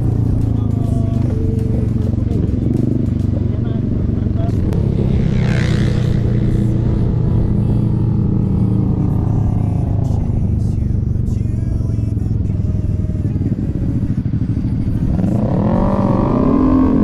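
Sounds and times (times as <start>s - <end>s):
road noise: 0.0s - 17.0s
scooter engine running: 0.0s - 17.0s.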